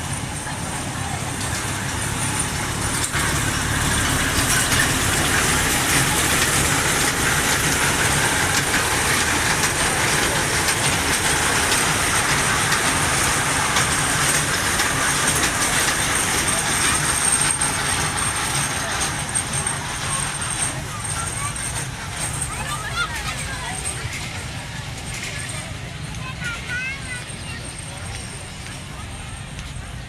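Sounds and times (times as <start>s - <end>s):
ride-on train engine drone: 0.0s - 30.0s.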